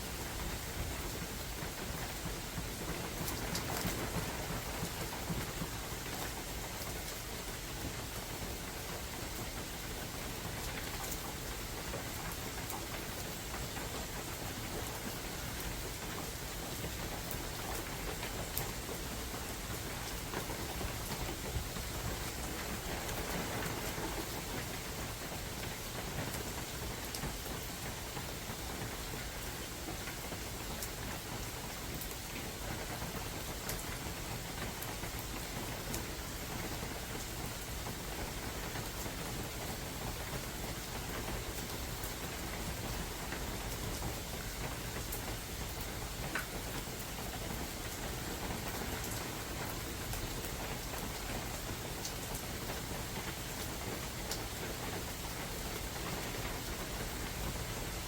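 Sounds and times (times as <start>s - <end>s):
rain pattering on leaves: 0.0s - 58.0s
sharp raindrop ticks: 0.2s - 58.0s.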